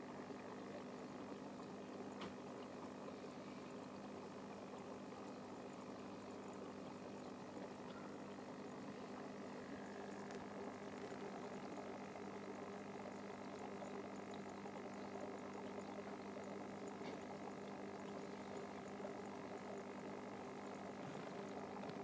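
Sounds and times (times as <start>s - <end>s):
aquarium equipment hum: 0.0s - 22.0s
moving water: 0.0s - 22.0s.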